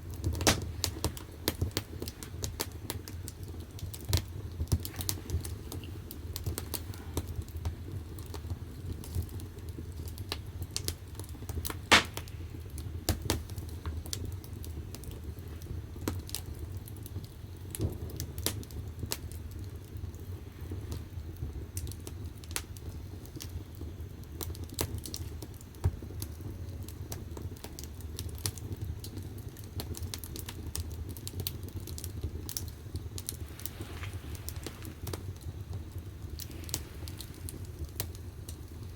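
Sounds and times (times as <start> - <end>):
firewood crackling and popping: 0.0 - 38.9
low rumble of fire: 0.0 - 38.9.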